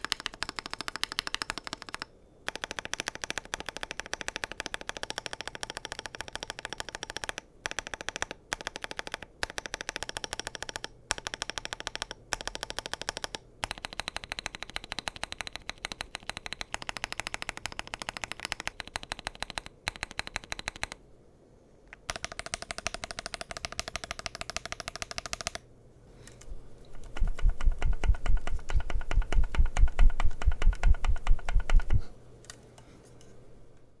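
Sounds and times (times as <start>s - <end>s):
mechanical keyboard typing: 0.0s - 21.0s, 22.1s - 25.6s, 26.9s - 32.1s.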